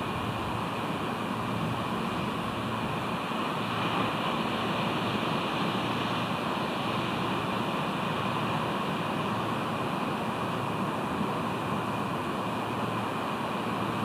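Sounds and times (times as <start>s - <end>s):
surf rushing: 0.0s - 14.0s
wind: 0.0s - 14.0s.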